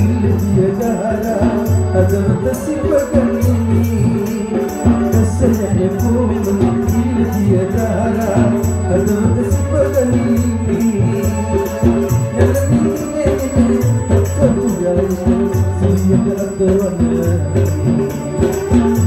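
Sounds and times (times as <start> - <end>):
hand drums: 0.0 - 19.0.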